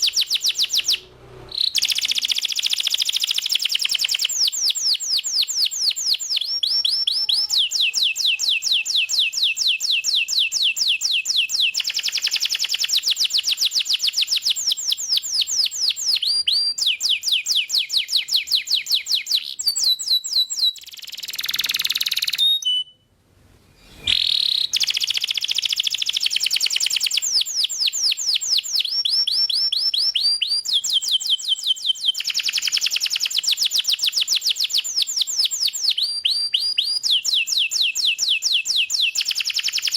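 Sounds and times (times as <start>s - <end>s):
canary singing trills: 0.0s - 23.0s, 23.8s - 39.9s.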